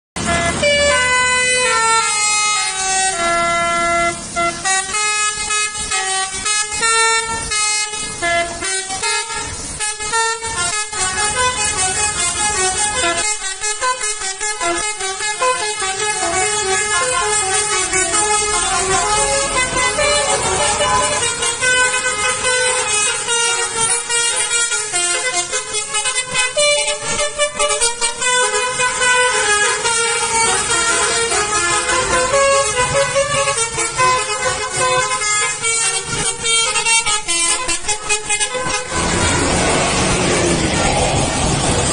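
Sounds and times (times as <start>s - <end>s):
multi-tone air horn melody: 0.2s - 40.7s.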